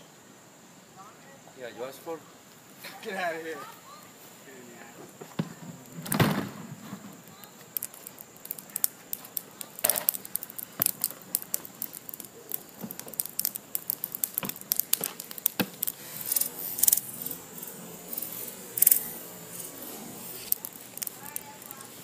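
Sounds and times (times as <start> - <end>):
fire hissing: 0.0 - 22.0
charcoal fire crackling and popping: 2.5 - 22.0.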